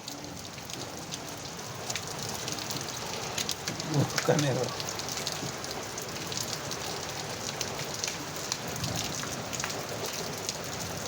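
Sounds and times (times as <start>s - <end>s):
rain pattering on hard surface: 0.0s - 11.0s.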